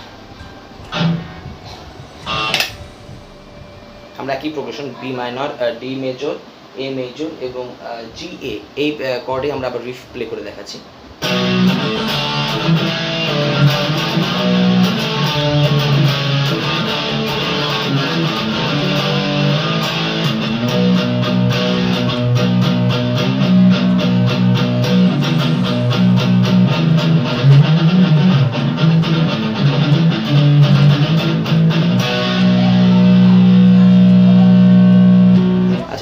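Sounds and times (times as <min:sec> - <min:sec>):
distorted electric guitar riff: 0:00.0 - 0:05.0, 0:11.2 - 0:36.0.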